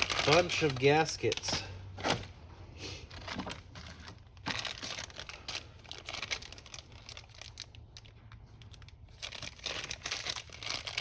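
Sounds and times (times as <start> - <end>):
plastic packaging crinkling: 0.0 - 2.3, 3.1 - 11.0.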